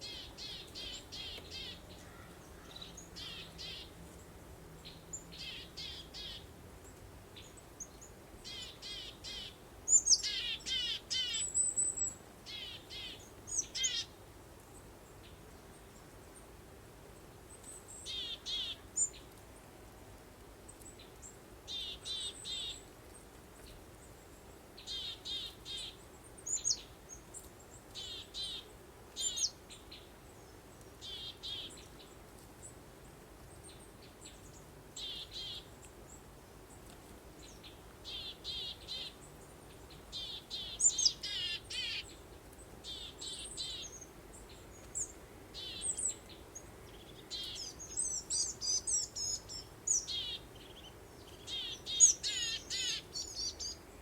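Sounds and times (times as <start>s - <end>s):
faint background noise: 0.0s - 54.0s
songbirds chirping: 0.0s - 54.0s.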